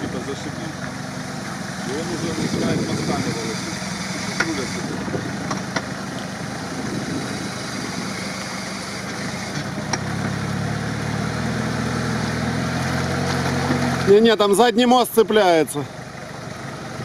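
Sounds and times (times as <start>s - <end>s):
truck engine under load: 0.0s - 17.0s
tyres churning through mud: 0.0s - 17.0s.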